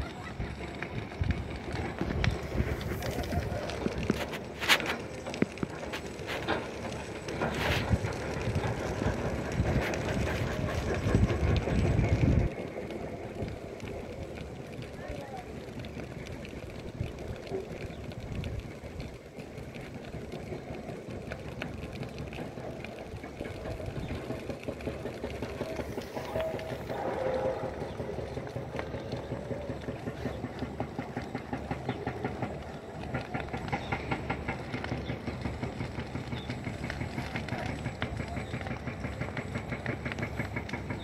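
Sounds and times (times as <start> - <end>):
dry bush crackling as it burns: 0.0 - 41.0.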